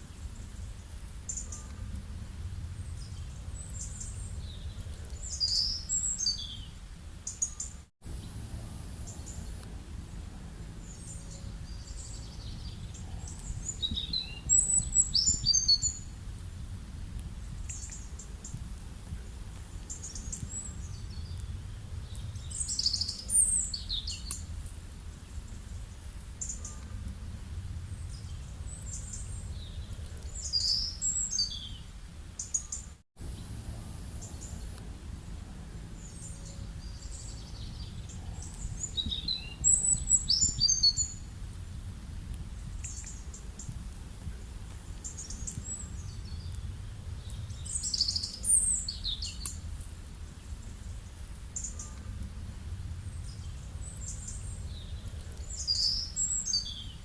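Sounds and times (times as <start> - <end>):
steady low rumble: 0.0 - 7.3, 8.0 - 32.4, 33.2 - 57.0
songbirds chirping: 0.0 - 57.0.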